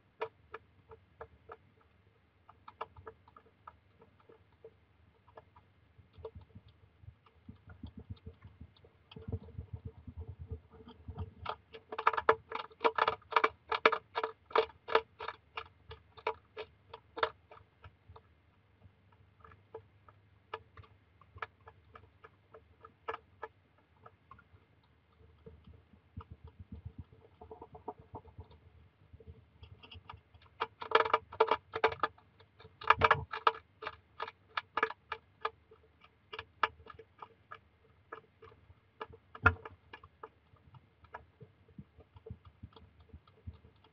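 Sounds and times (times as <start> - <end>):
hedgehog crunching kibble: 0.1 - 43.9.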